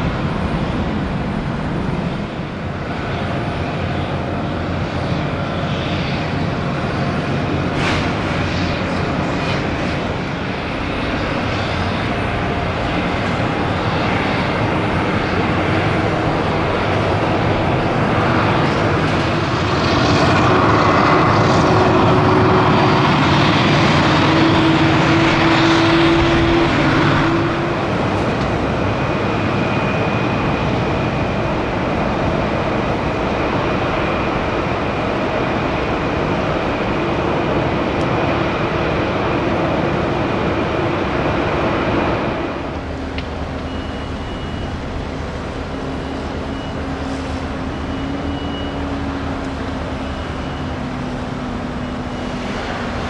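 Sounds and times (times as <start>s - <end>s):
jet engines rumbling with whine: 0.0s - 53.0s.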